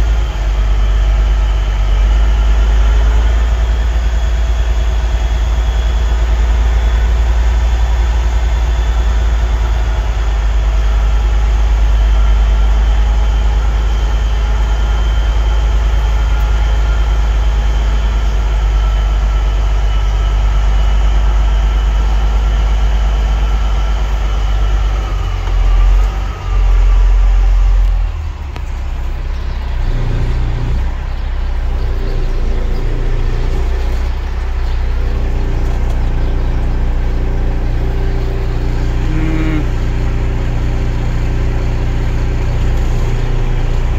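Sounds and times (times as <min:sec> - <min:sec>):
diesel engine drone in cab: 0:00.0 - 0:43.9.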